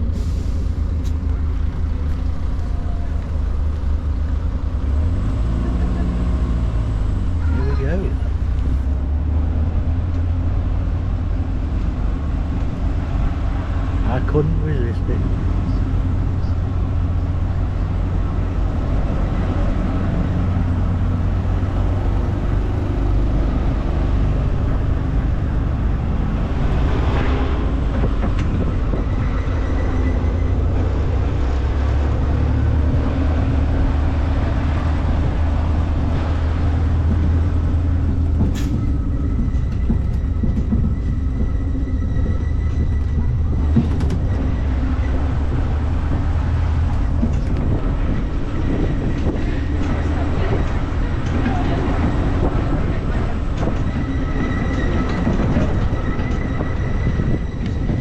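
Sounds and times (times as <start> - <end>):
small ride train rumbling: 0.0 - 58.0.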